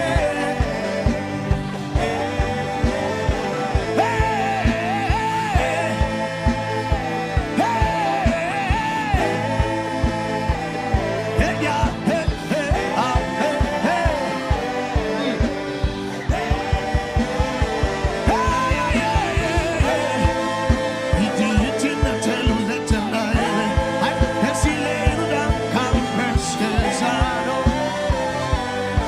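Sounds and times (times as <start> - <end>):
gospel worship music: 0.0 - 29.0.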